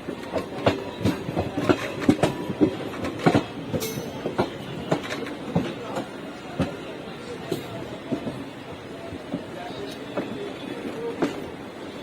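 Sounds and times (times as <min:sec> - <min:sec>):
train wheels clattering on rails: 0:00.0 - 0:11.9.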